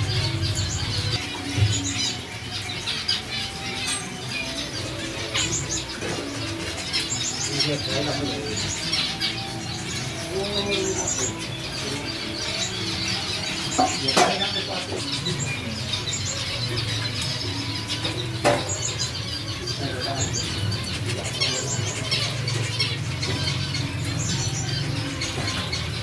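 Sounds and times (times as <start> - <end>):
finch chirping and trilling: 0.0 - 26.0.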